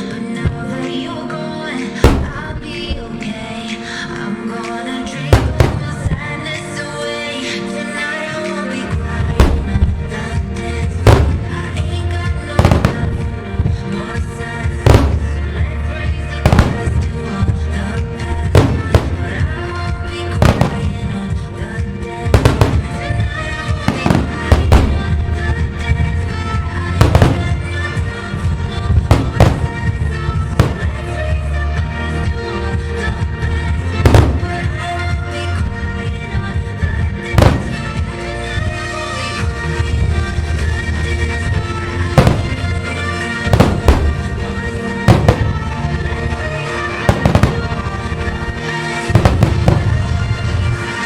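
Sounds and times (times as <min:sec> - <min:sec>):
dance-pop song over loudspeakers: 0:00.0 - 0:51.0
music: 0:00.0 - 0:51.0
fireworks bangs: 0:01.9 - 0:03.6, 0:05.1 - 0:06.8, 0:08.9 - 0:31.4, 0:33.0 - 0:51.0.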